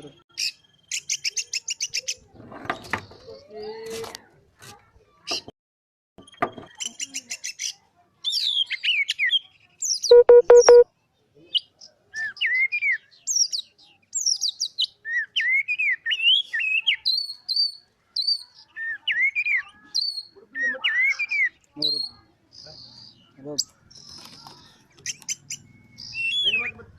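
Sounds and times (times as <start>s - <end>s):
bird singing varied song: 0.0s - 3.9s, 6.2s - 26.9s.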